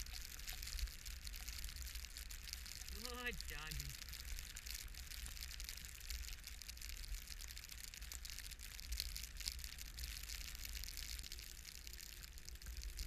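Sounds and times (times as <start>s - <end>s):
crackling hiss of snow: 0.0s - 13.0s.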